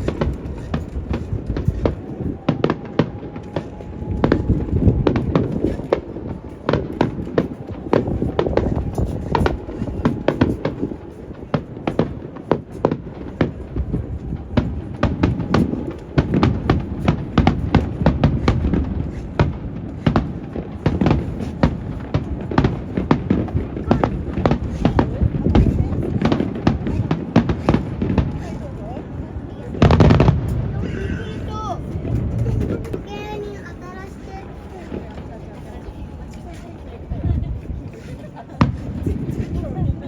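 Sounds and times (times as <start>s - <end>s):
fireworks bangs and crackles: 0.0s - 40.0s
wind on microphone: 0.0s - 40.0s.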